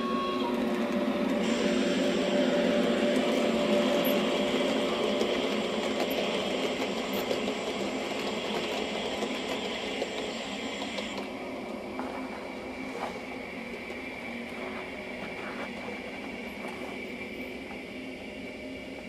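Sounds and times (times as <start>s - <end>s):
wheels running on rails: 0.0s - 19.0s.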